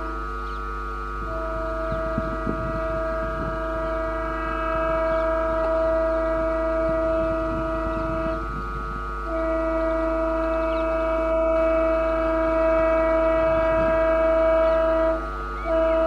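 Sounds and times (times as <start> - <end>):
train air horn blast: 0.0 - 16.0
train rumble: 0.0 - 16.0.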